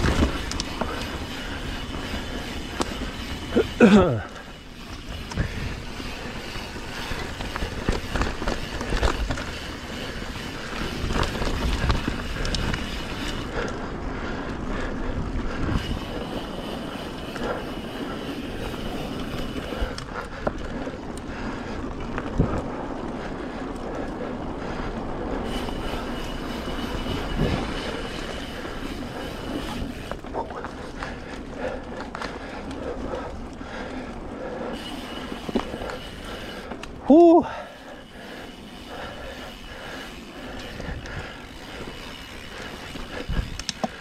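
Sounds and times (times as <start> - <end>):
bike rattling: 0.0 - 44.0
bike tyres rumbling on dirt: 0.0 - 44.0.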